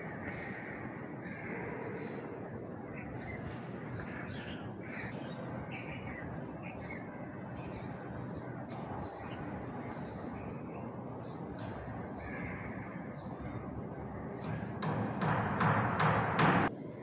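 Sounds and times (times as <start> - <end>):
birds calling: 0.0 - 17.0
outdoor background rush: 0.0 - 17.0.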